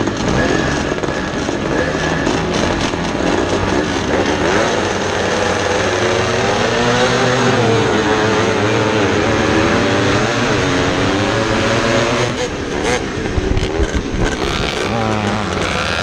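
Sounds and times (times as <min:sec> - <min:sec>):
race car engine running hard: 0:00.0 - 0:16.0.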